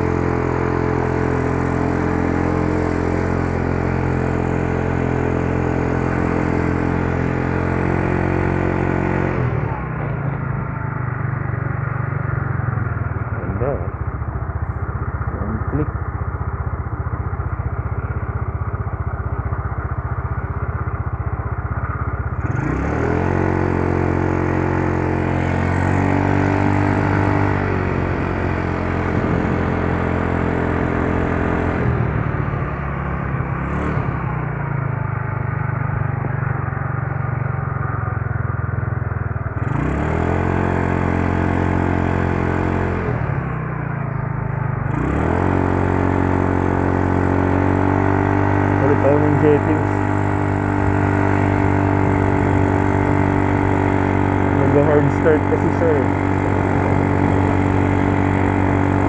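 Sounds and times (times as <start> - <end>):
scooter engine idling and revving: 0.0 - 59.0.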